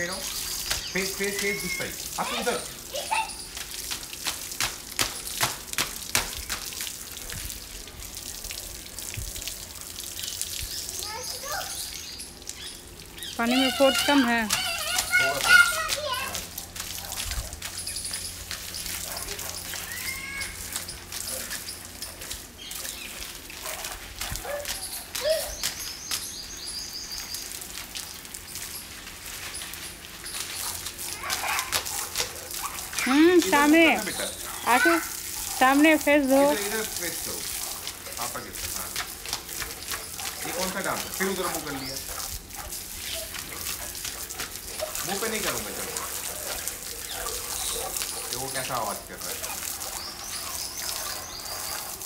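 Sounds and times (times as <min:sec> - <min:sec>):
small birds chirping: 0:00.0 - 0:04.2, 0:10.2 - 0:52.0
hose spraying water: 0:00.0 - 0:52.0
water splashing: 0:00.0 - 0:52.0.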